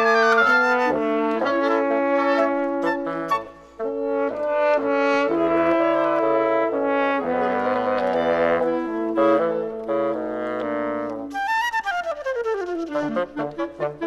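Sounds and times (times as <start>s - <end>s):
french horn: 0.0s - 11.4s
bassoon: 0.0s - 14.0s
clarinet: 0.0s - 14.0s
flute: 0.0s - 14.0s
oboe: 0.0s - 14.0s.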